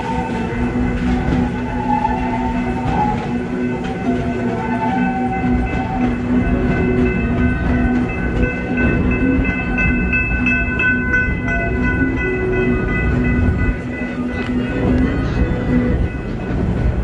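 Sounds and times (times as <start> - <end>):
train cars rumbling on track: 0.0 - 17.0.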